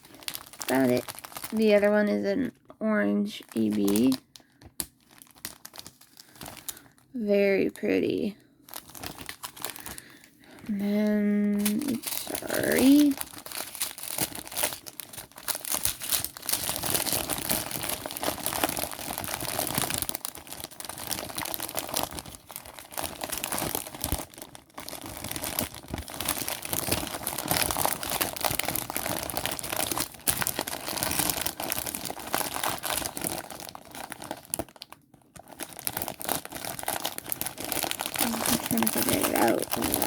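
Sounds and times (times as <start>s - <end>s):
plastic bags crinkling: 0.0s - 40.0s.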